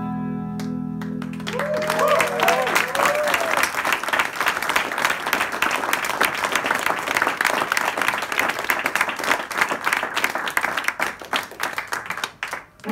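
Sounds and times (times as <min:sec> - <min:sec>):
audience applauding: 0:01.0 - 0:12.9.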